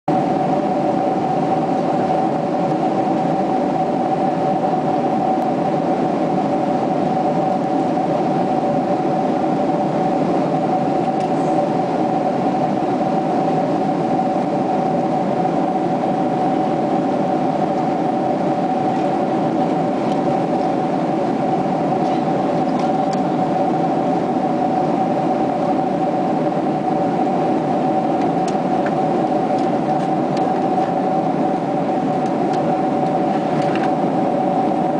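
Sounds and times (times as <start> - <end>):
aircraft cabin engine drone: 0.1 - 34.9
steady hum tones: 0.1 - 34.9.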